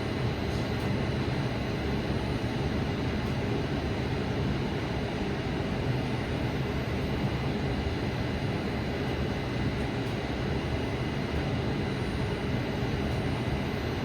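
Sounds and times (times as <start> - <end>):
air conditioning whooshing hum: 0.0 - 14.0.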